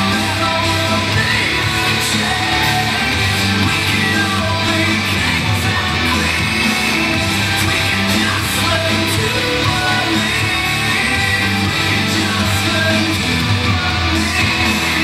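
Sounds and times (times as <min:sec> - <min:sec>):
rock music with guitar: 0:00.0 - 0:15.0.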